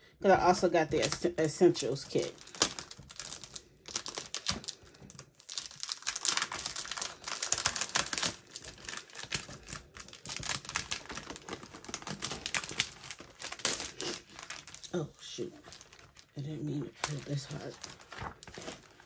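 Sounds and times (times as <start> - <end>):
plastic packaging crinkling: 0.7 - 19.0.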